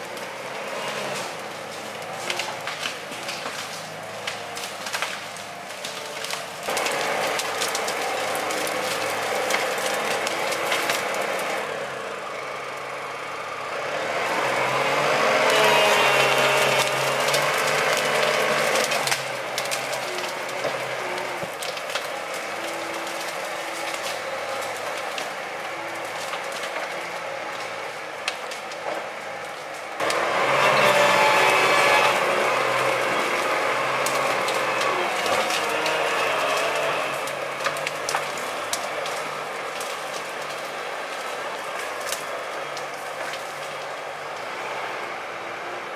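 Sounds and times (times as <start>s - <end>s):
branches cracking under wheels: 0.0s - 45.9s
tractor working under load: 0.0s - 45.9s.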